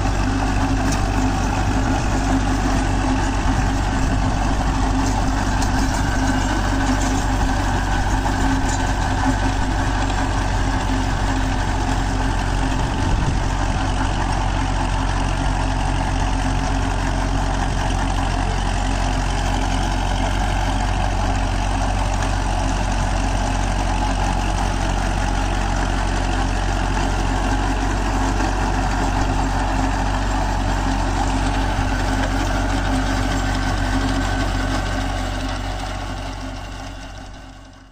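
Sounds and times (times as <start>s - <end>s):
tractor diesel engine droning: 0.0s - 37.9s.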